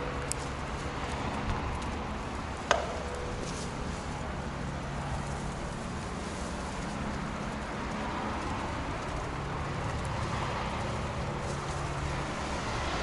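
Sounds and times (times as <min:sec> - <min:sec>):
traffic rumble and hiss: 0:00.0 - 0:13.0.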